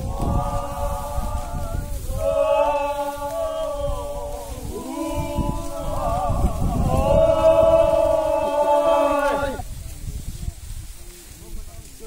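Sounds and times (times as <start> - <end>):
voices chanting: 0.0 - 10.0.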